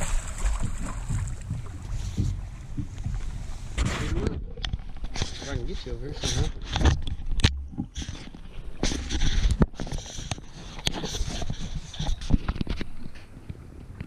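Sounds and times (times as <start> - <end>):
person shifting about in boat: 0.0 - 14.0.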